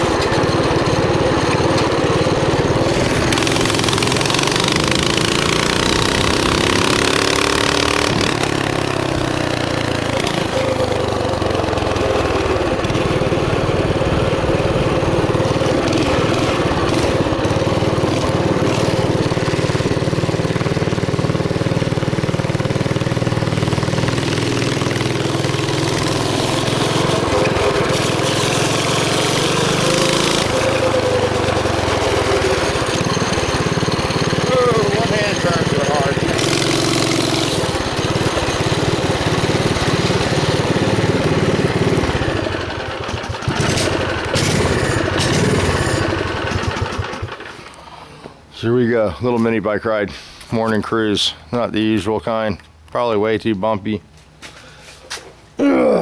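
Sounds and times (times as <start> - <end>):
small engine revving: 0.0 - 48.5.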